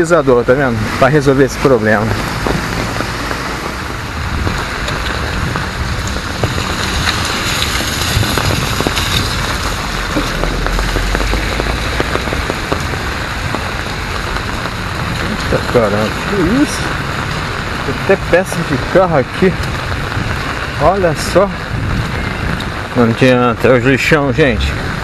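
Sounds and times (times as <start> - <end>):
rain pattering on umbrella: 0.0 - 25.0
low rumble: 0.3 - 25.0.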